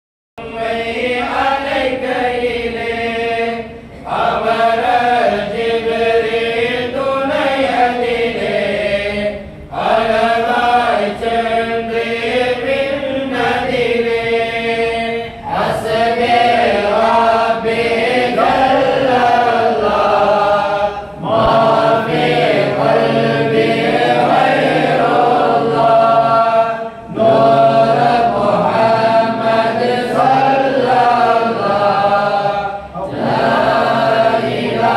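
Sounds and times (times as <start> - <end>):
men chanting together: 0.4 - 34.9.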